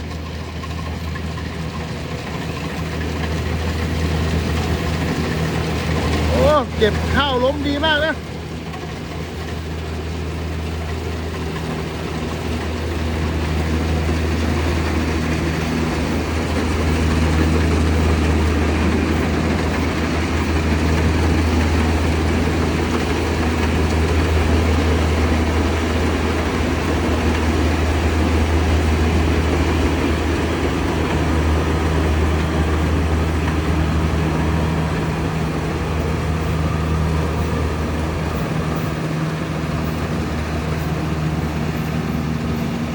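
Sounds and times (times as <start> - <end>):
combine harvester engine drone: 0.0 - 42.9.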